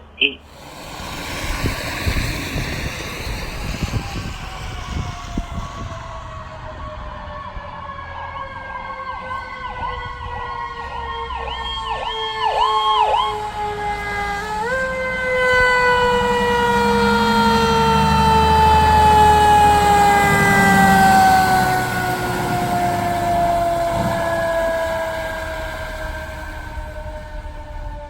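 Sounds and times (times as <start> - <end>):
fire truck siren: 0.1 - 28.0
low rumble of passing truck: 0.4 - 11.8, 12.6 - 28.0.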